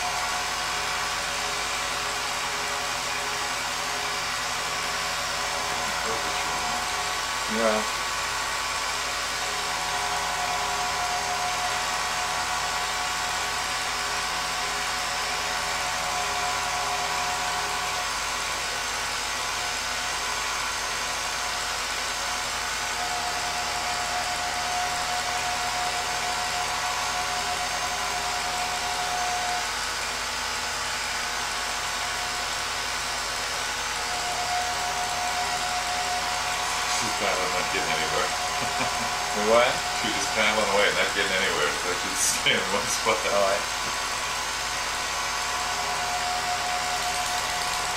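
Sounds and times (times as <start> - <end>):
film projector motor whirring: 0.0 - 47.9.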